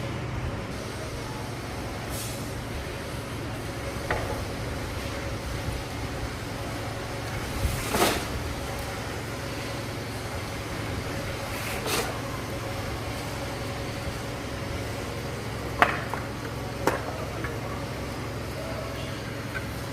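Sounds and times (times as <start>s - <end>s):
low machine hum: 0.0s - 19.9s.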